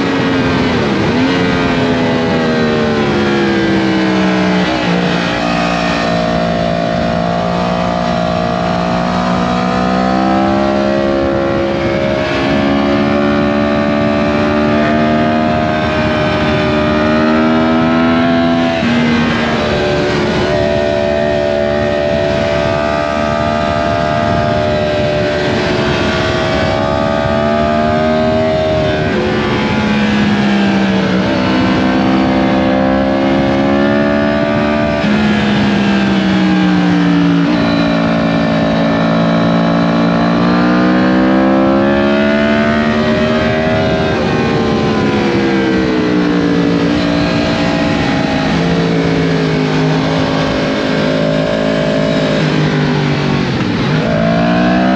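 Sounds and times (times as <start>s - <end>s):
motorcycle engine running: 0.0s - 54.9s
wind rush over microphone: 0.0s - 54.9s.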